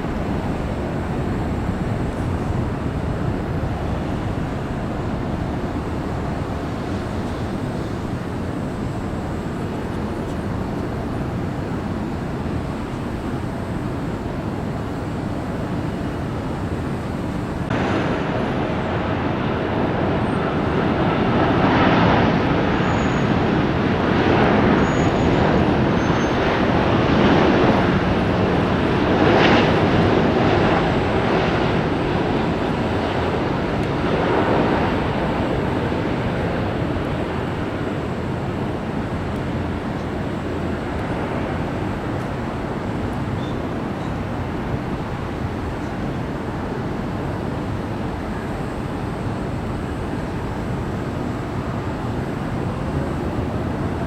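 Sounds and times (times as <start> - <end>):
jet airliner passing: 0.0 - 54.0.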